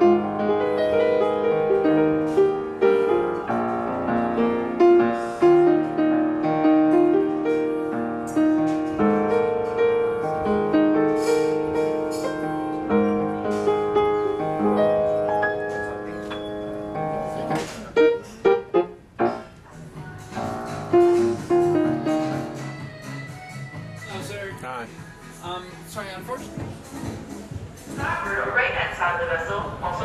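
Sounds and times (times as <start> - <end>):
piano music: 0.0 - 29.4.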